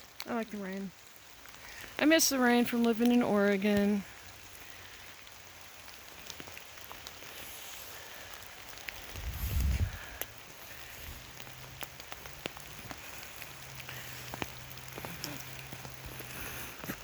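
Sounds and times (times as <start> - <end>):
raindrops tapping on umbrella: 0.0 - 17.0
steady hiss of rain: 0.0 - 17.0.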